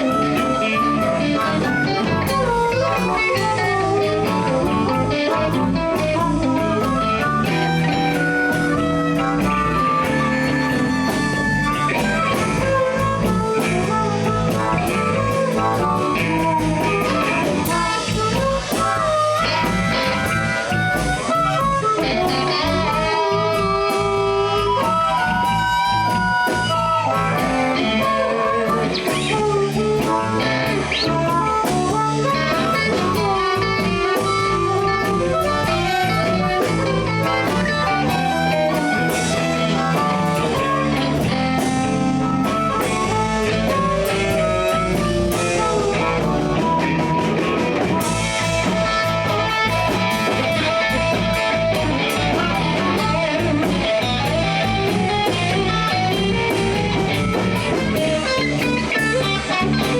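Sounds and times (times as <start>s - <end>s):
blues band playing: 0.0s - 59.9s.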